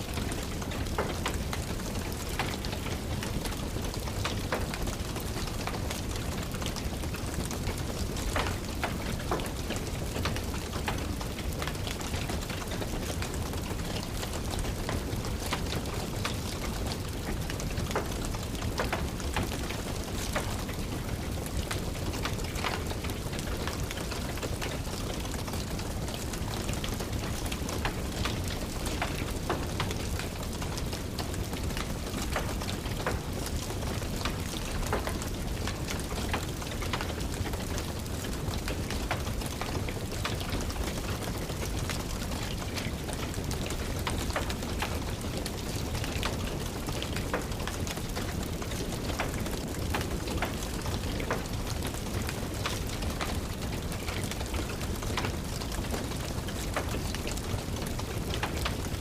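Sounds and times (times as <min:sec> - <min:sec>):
steady rain patter: 0:00.0 - 0:59.0
wood fire crackling and popping: 0:00.0 - 0:59.0.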